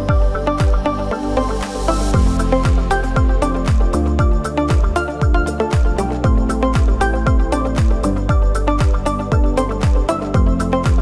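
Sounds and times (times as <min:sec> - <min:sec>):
sharp percussion: 0:00.0 - 0:11.0
steady kick drum: 0:00.0 - 0:11.0.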